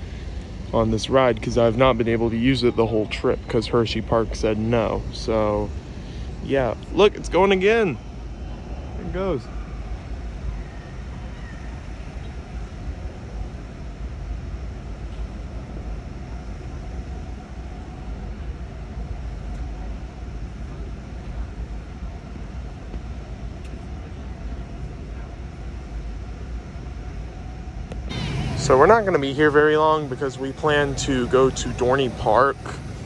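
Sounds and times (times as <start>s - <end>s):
faint steady hum: 0.0s - 33.0s
low traffic rumble: 0.0s - 33.0s.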